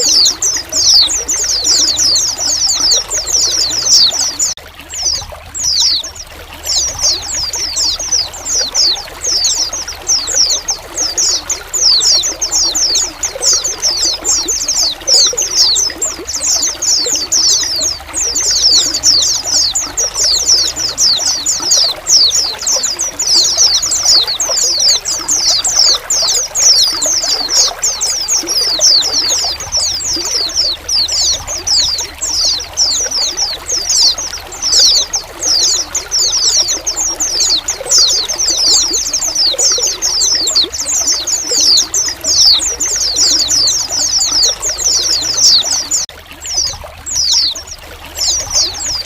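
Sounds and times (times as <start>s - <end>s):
birds chirping: 0.0s - 49.0s
running water trickling: 0.0s - 49.0s.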